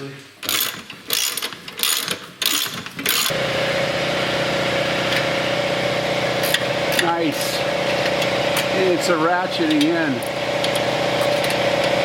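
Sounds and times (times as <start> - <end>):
power ratchet running: 0.4 - 12.0.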